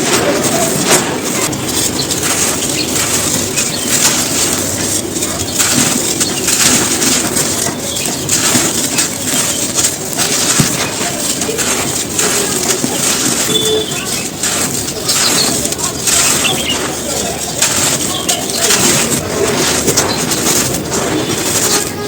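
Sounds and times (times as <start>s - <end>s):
dry cones being crunched: 0.0s - 22.0s.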